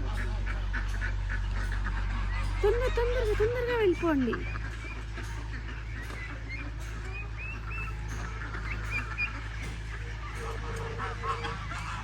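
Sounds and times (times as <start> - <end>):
ducks calling: 0.0 - 12.0.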